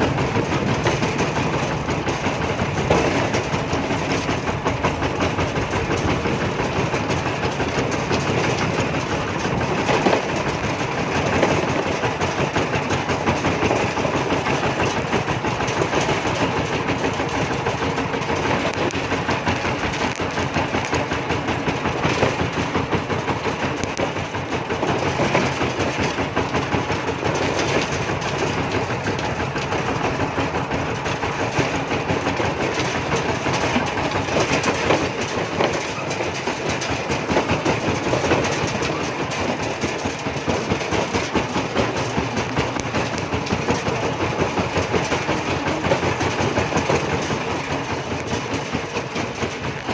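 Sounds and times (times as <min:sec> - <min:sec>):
diesel tractor engine chugging: 0:00.0 - 0:49.9.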